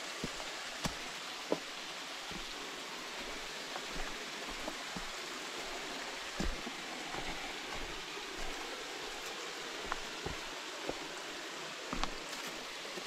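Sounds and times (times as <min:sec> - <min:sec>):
water hissing: 0:00.0 - 0:13.0.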